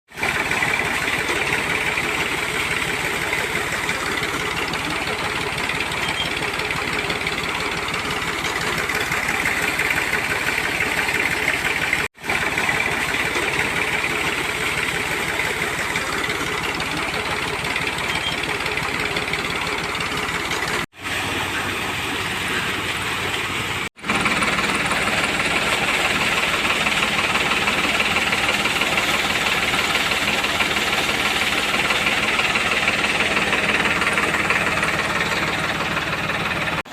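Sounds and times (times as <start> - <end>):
machine running with crackling texture: 0.1 - 36.9.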